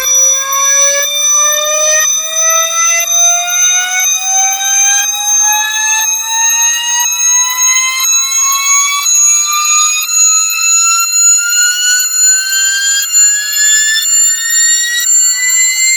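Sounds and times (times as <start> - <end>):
alarm ringtone: 0.0 - 15.9.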